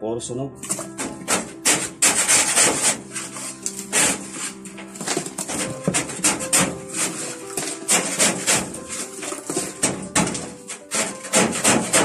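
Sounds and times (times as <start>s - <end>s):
brush scraping metal oven floor: 0.7s - 12.0s.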